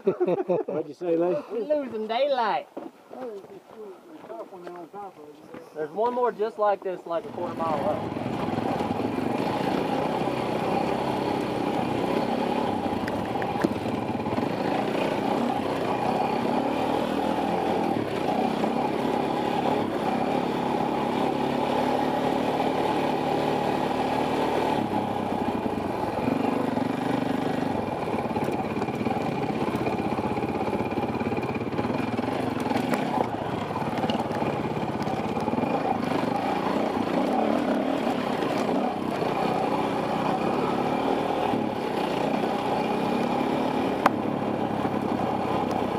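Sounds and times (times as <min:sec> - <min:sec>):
dirt bike engine revving: 0:07.2 - 0:45.9.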